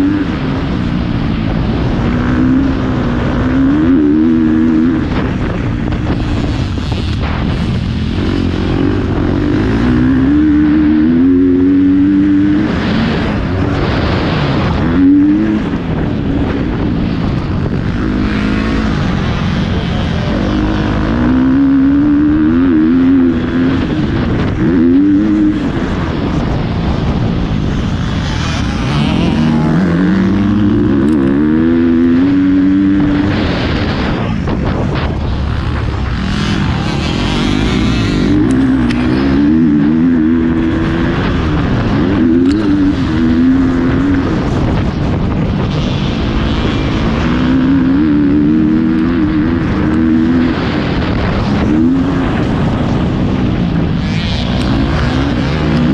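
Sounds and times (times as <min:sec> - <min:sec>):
motocross bike engine revving: 0:00.0 - 0:55.9
wind rushing: 0:00.0 - 0:55.9.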